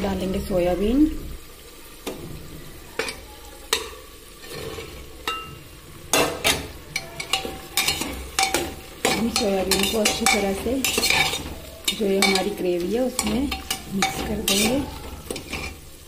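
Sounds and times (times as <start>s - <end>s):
faint sizzle: 0.0s - 16.0s
spoon and bowl clinking on metal: 3.0s - 15.9s.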